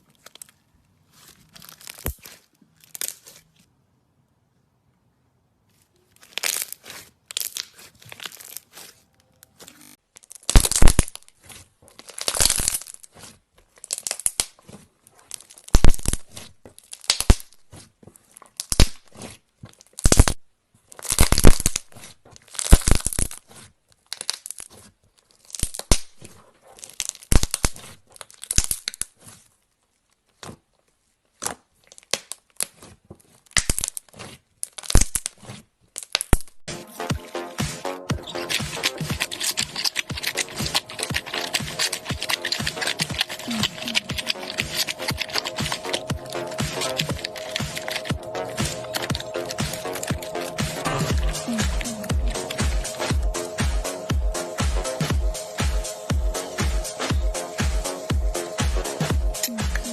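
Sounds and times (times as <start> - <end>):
slime popping and squelching: 0.0 - 3.5, 6.0 - 17.9, 18.5 - 20.4, 21.0 - 26.2, 26.8 - 29.0, 31.3 - 59.9.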